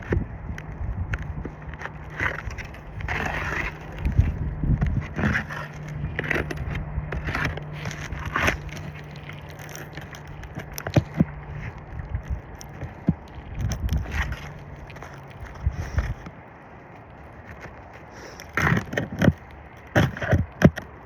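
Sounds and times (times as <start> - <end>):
pry bar scraping roof shingles: 0.0 - 21.0.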